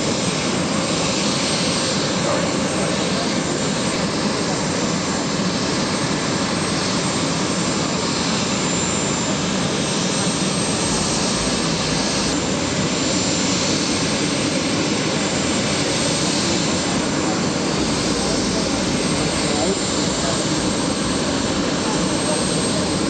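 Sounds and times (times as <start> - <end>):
aircraft turbine engines whining: 0.0 - 23.0.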